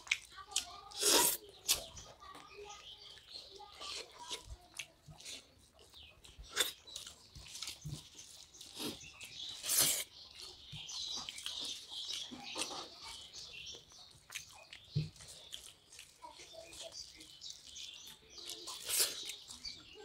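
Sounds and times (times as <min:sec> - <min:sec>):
people chewing and lip smacking: 0:00.0 - 0:20.0
wet squishing of rice: 0:00.0 - 0:20.0.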